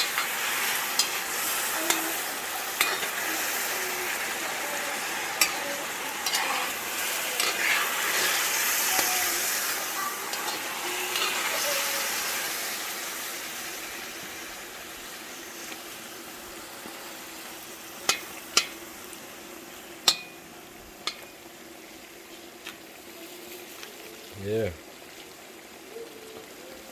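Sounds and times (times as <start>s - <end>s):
food sizzling in a pot: 0.0s - 26.9s.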